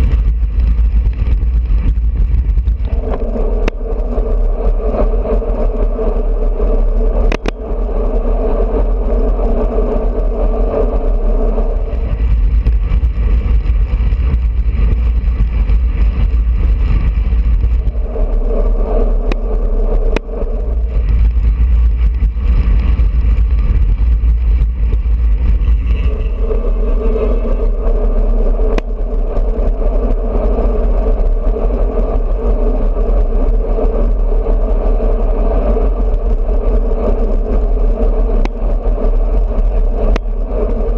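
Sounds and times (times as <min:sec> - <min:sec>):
bicycle tyre and road noise: 0:00.0 - 0:40.9
wind rushing over microphone: 0:00.0 - 0:40.9.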